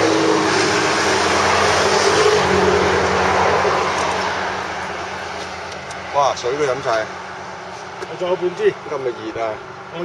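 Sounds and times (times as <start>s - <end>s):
vehicle passing by: 0.0s - 10.0s.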